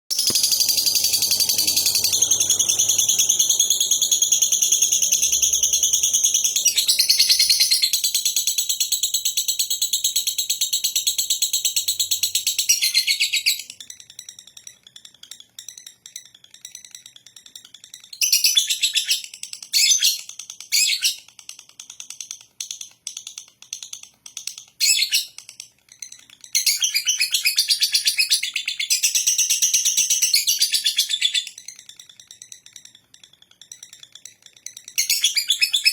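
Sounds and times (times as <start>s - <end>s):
bird chattering trill: 0.2s - 21.3s, 22.2s - 35.9s.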